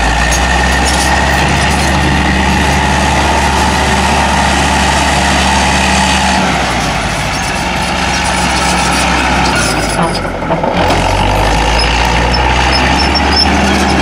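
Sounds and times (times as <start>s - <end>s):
loader diesel engine running: 0.0s - 14.0s.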